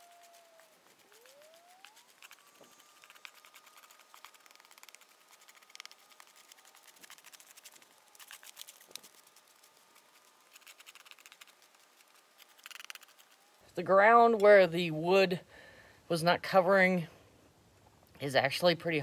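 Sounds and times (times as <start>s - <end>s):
faint steady tone: 0.0s - 19.0s.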